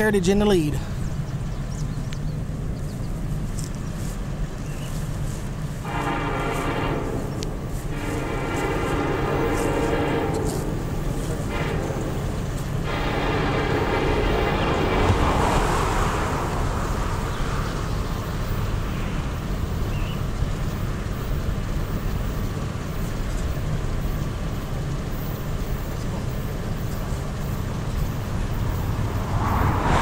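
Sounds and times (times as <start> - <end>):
road vehicle hiss: 0.7 - 30.0
wind buffeting microphone: 0.9 - 25.1, 26.5 - 30.0.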